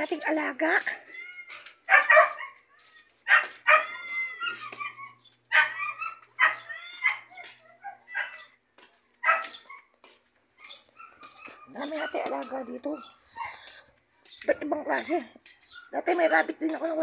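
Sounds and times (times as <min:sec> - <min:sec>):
dogs barking and yipping: 0:00.0 - 0:17.0.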